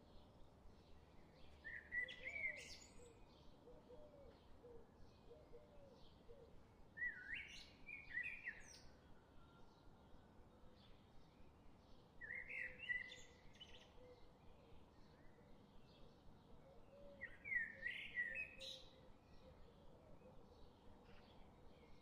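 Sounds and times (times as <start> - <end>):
faint bird chirps and calls: 1.0 - 10.0, 12.2 - 22.0.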